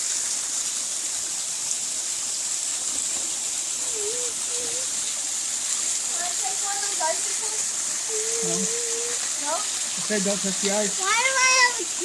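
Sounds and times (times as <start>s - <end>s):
waterfall rushing hiss: 0.0s - 12.0s.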